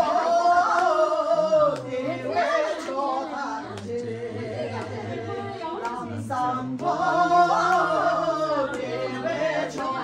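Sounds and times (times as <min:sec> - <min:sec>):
person singing unaccompanied: 0:00.0 - 0:10.0.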